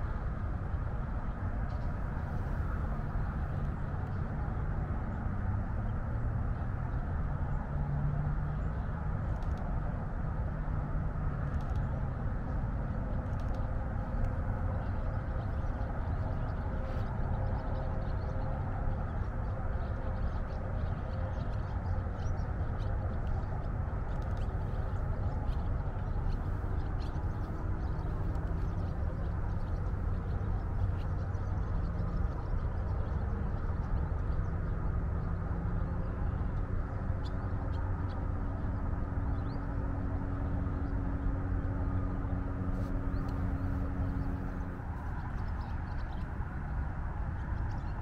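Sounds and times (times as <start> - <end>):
highway traffic rumble: 0.0 - 48.0.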